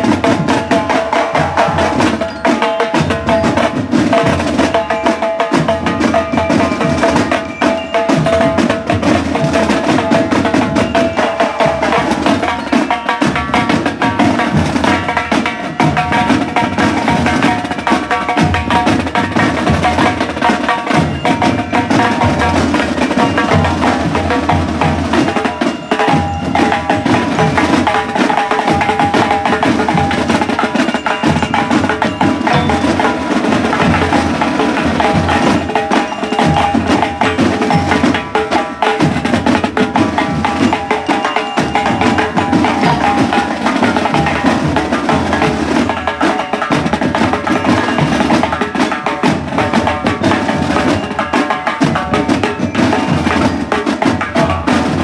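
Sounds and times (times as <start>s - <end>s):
snare drumline beat: 0.0s - 55.0s.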